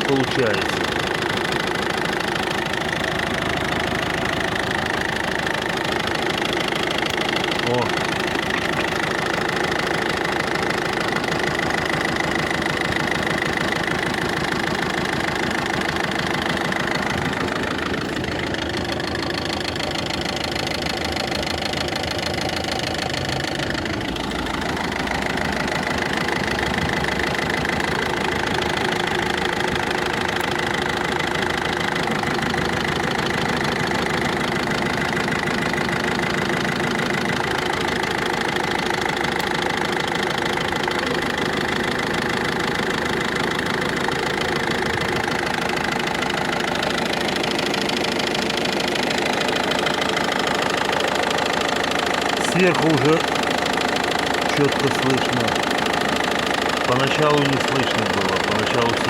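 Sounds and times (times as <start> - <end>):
diesel engine idling: 0.0 - 59.0
engine ticking knock: 0.0 - 59.0.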